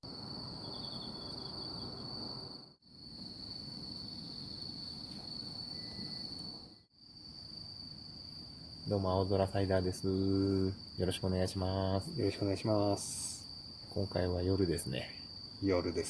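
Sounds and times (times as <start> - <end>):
crickets trilling: 0.1 - 16.0.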